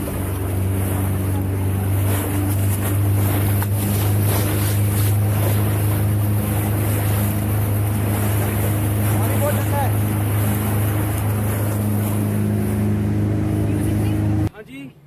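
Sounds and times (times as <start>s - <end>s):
speedboat engine humming: 0.0s - 15.0s
water rushing along hull: 0.0s - 15.0s.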